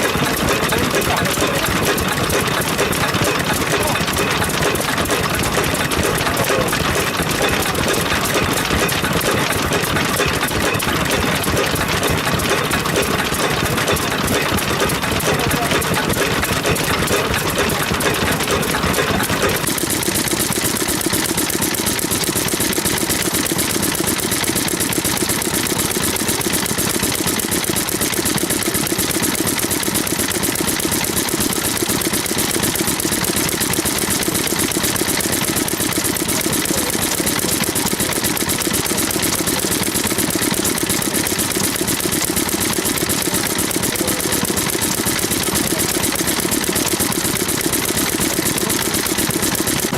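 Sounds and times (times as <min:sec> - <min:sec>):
stationary engine firing beats: 0:00.0 - 0:49.9.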